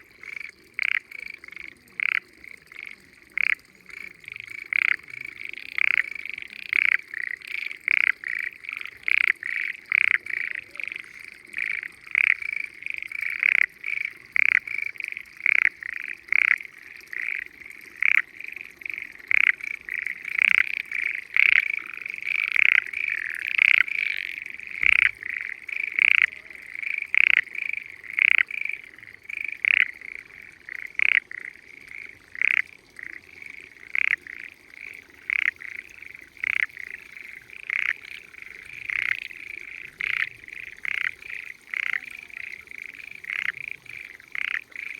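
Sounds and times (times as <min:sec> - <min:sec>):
frogs calling: 0:00.0 - 0:44.9.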